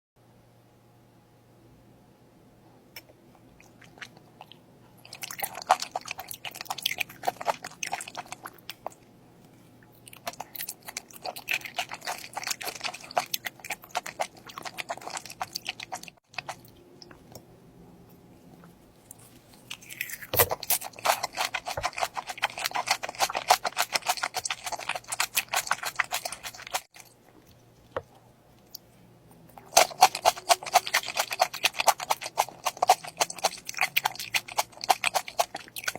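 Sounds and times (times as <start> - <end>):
chewing crunchy food: 3.0 - 17.5, 18.1 - 35.9.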